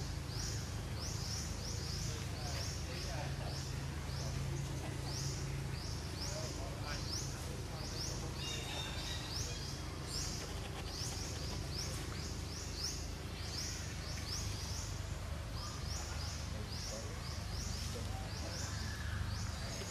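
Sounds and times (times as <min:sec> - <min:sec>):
low steady rumble: 0:00.0 - 0:19.9.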